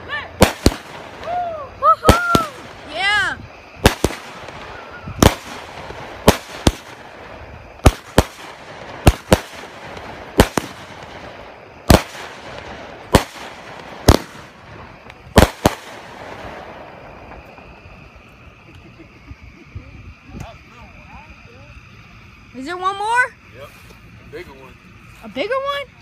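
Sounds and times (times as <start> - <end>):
fireworks bangs: 0.0 - 23.2
fireworks hiss: 0.0 - 26.0.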